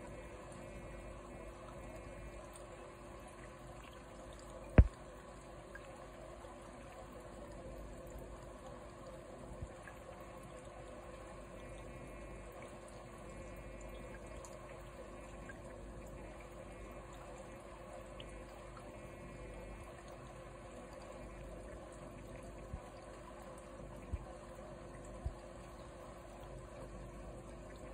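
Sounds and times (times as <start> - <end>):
low steady hum: 0.0 - 27.9
water trickling from filter: 0.0 - 27.9.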